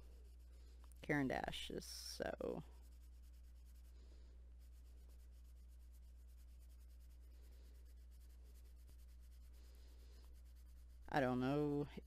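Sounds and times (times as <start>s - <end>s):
steady low hum: 0.0s - 12.0s
crayon scratching on paper: 1.3s - 11.6s.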